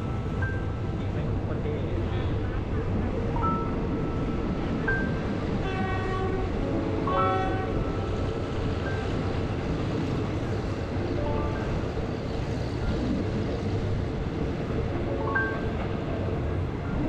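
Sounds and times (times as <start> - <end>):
train carriage rumbling and rattling: 0.0 - 17.0.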